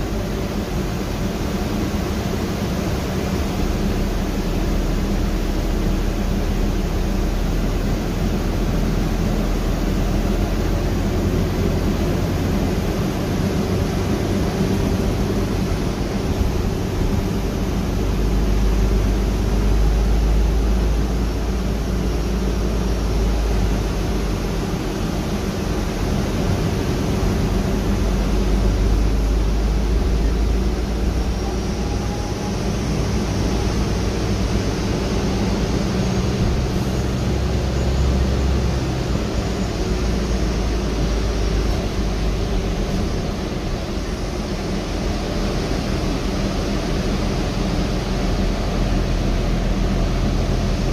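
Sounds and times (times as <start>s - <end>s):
bus drivetrain hum: 0.0s - 50.9s
faint high whine: 0.0s - 50.9s
road rumble: 0.0s - 50.9s.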